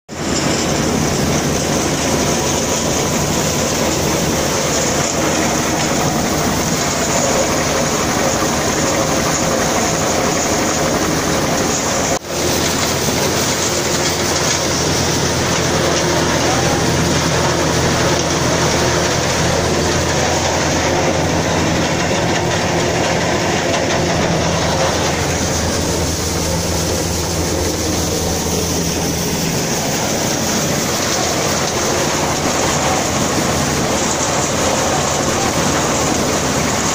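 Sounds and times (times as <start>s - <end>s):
corn sheller rattling: 0.1s - 36.9s
tractor engine running: 0.1s - 36.9s.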